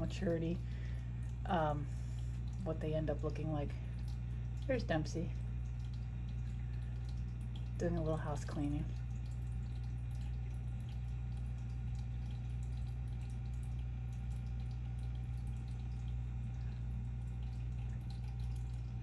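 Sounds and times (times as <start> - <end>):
aquarium pump humming: 0.0 - 19.0
water trickling and dripping: 0.0 - 19.0.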